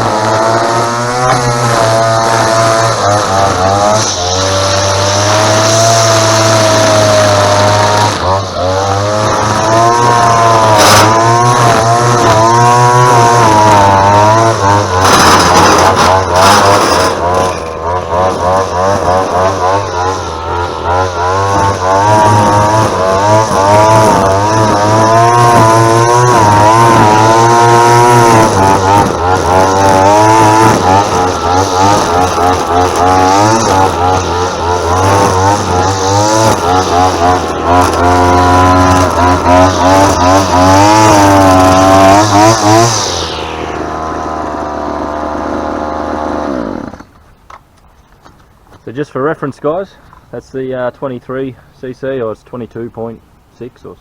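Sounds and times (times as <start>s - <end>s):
string trimmer engine revving: 0.0s - 47.2s.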